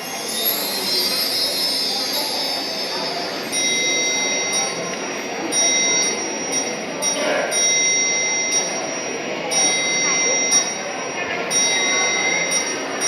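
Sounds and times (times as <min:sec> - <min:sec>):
dance music with ringing bells: 0:00.0 - 0:13.0.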